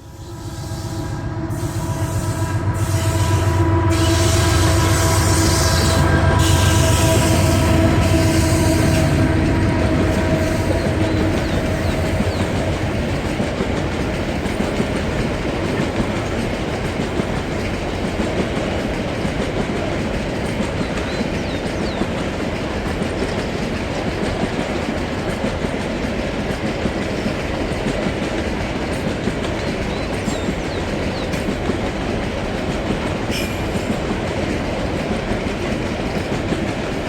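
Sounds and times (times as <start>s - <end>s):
freight train rumble: 0.0s - 37.0s.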